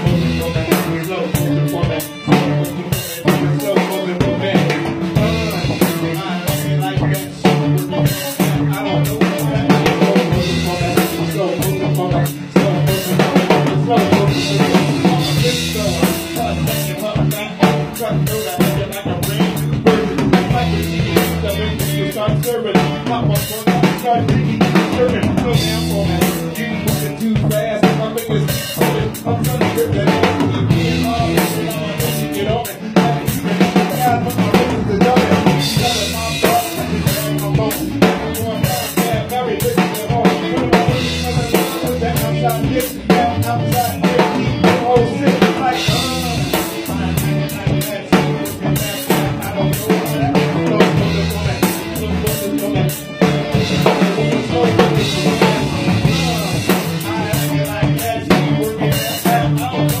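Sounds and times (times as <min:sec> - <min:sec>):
drum kit grooving: 0:00.0 - 1:00.0
live band playing: 0:00.0 - 1:00.0.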